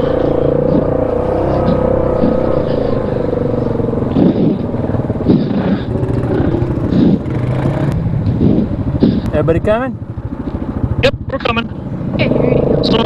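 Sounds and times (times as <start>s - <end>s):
atv engine revving under load: 0.0s - 13.0s.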